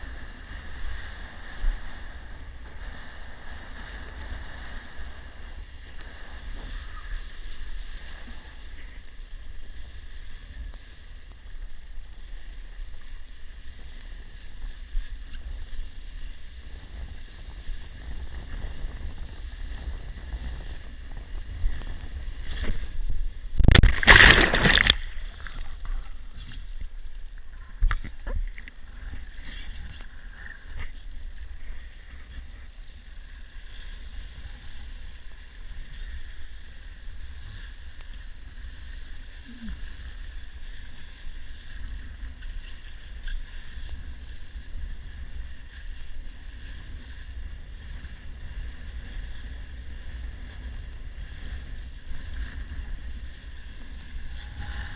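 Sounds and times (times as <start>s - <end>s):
surf: 0.0s - 54.9s
wind rumbling on microphone: 0.0s - 54.9s.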